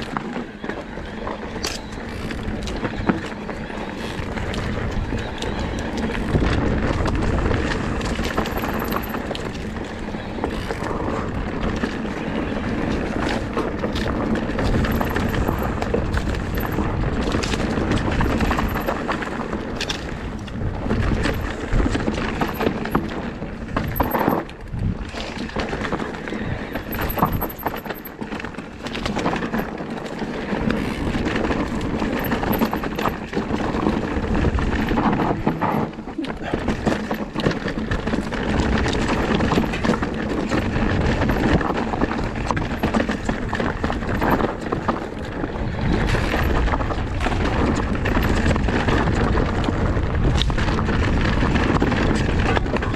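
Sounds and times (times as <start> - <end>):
bike clattering over bumps: 0.0 - 52.9
tyres running over rocks and dirt: 0.0 - 52.9
wind rumble on microphone: 0.0 - 52.9.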